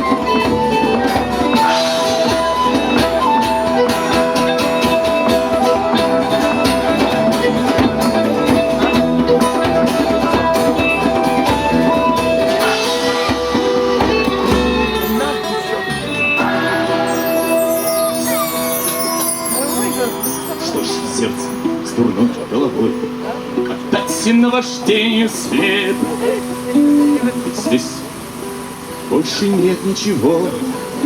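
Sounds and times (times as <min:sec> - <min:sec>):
guitar playing: 0:00.0 - 0:29.7
live band playing: 0:00.0 - 0:31.0.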